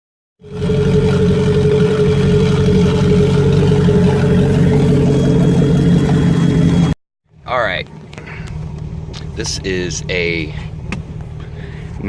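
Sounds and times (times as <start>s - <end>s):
boat engine burbling: 0.4s - 12.0s
engine whine: 0.4s - 12.0s.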